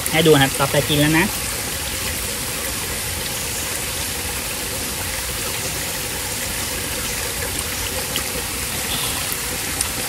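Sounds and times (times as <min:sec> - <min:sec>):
forest stream rushing: 0:00.0 - 0:10.0.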